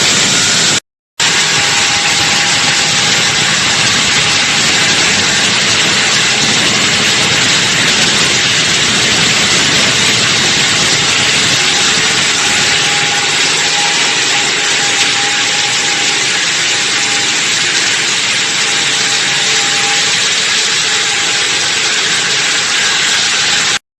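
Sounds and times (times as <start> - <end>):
wall saw cutting concrete: 0.0 - 23.8.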